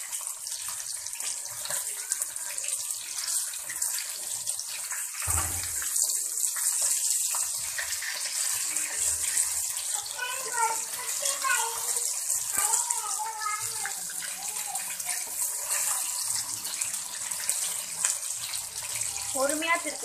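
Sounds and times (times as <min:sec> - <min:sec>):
fish frying in hot oil: 0:00.0 - 0:20.0.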